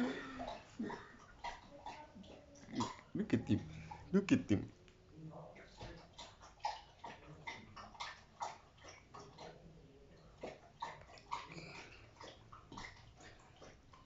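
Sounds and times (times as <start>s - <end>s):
dog licking wet slurps: 0.0s - 4.1s, 5.6s - 14.0s.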